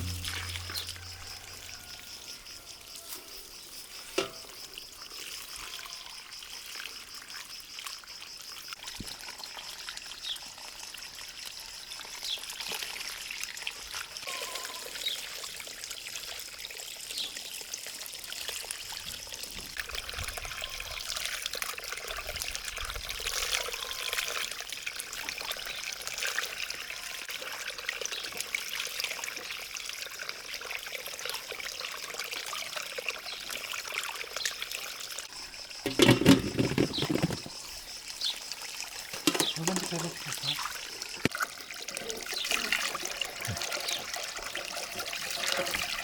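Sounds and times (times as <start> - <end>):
water trickling and pouring: 0.0 - 46.0.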